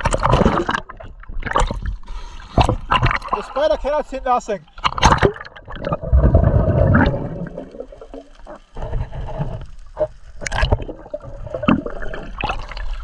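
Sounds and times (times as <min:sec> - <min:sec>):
seawater splashing and gurgling: 0:00.0 - 0:04.0, 0:04.6 - 0:13.0.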